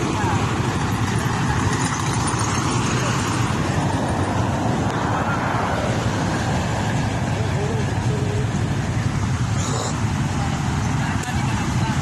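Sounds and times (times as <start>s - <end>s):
faint voices: 0.0s - 12.0s
moving vehicle rumble: 0.0s - 12.0s
traffic noise: 0.0s - 12.0s.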